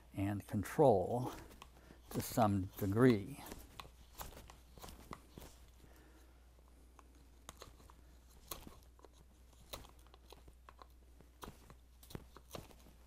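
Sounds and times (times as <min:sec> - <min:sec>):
knife shaving wood: 0:00.9 - 0:06.2, 0:06.9 - 0:13.0.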